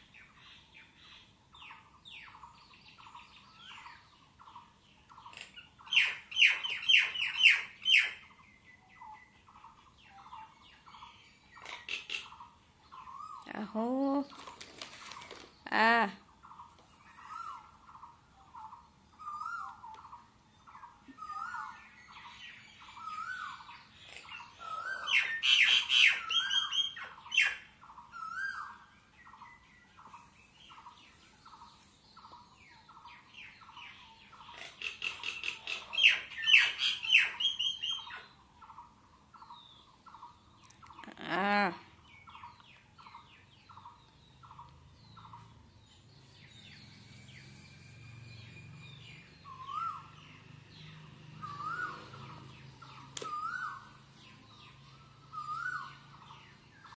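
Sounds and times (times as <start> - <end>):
birds calling: 0.0 - 57.0
rapid bird chirping: 0.0 - 57.0.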